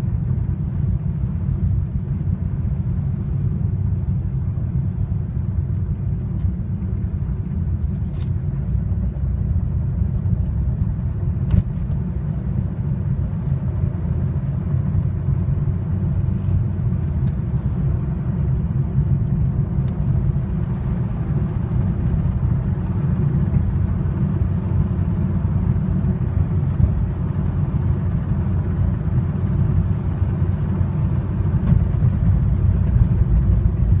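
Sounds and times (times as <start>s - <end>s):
car engine rumbling under load: 0.0s - 34.0s.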